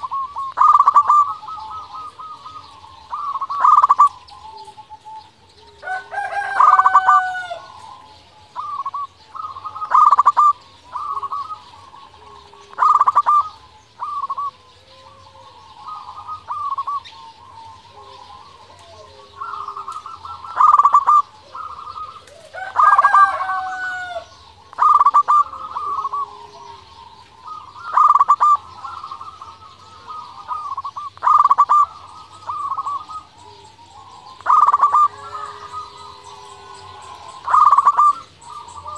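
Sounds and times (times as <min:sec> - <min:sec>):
bird's drawn-out call: 0:00.0 - 0:38.9
dove cooing: 0:00.0 - 0:38.9.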